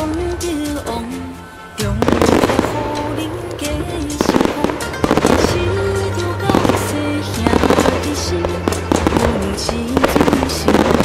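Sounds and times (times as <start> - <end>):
loud recorded music: 0.0 - 11.0
fireworks bursting and crackling: 1.8 - 11.0.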